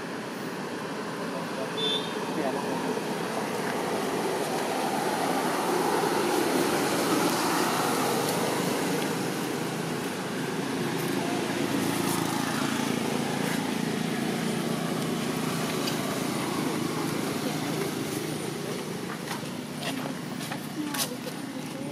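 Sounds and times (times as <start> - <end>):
low engine hum: 0.0 - 21.9
road traffic noise: 0.0 - 21.9.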